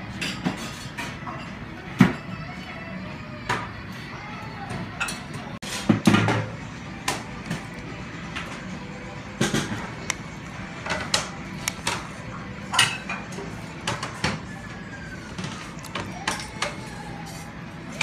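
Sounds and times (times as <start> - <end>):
restaurant noise: 0.0 - 18.0.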